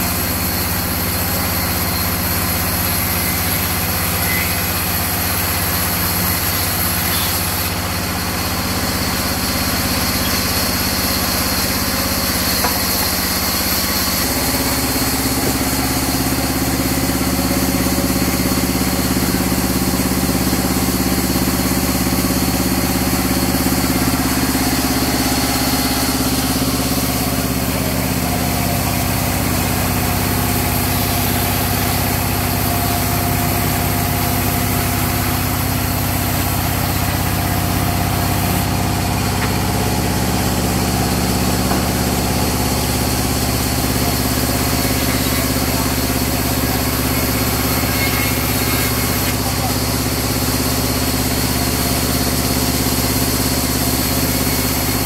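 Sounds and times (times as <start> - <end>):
band saw humming: 0.0 - 55.0.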